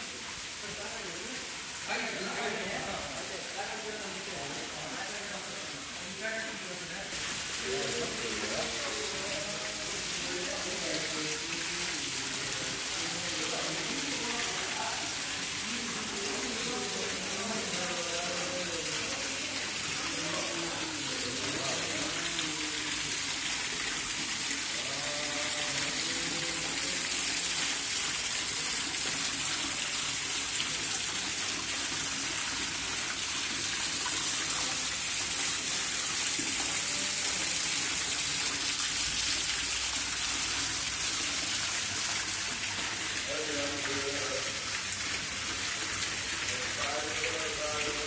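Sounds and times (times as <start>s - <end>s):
fountain water splashing into pool: 0.0s - 48.0s.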